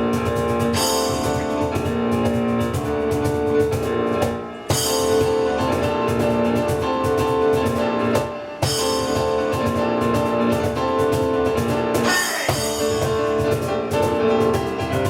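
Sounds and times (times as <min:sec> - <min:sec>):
drum kit beat: 0:00.0 - 0:15.0
live instrumental band music: 0:00.0 - 0:15.0.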